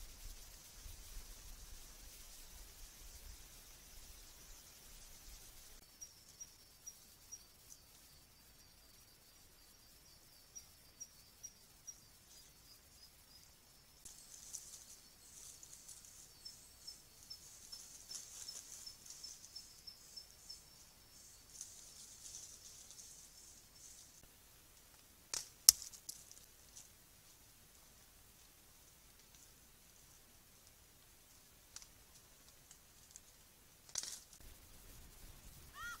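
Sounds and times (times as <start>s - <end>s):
insects trilling and chirping: 0.0s - 36.0s.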